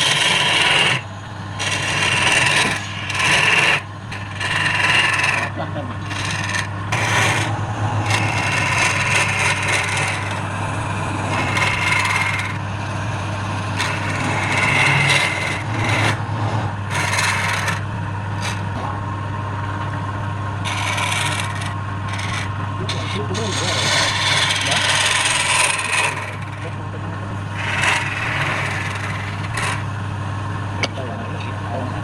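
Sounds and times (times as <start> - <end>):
tool scraping spinning wood: 0.0 - 19.0, 20.6 - 32.0
lathe motor humming: 0.0 - 32.0.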